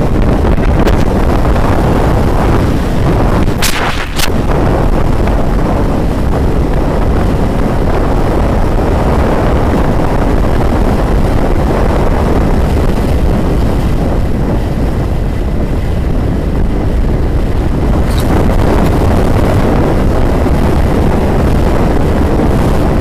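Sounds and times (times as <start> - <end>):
motorcycle road noise: 0.0 - 23.0
wind rush on microphone: 0.0 - 23.0.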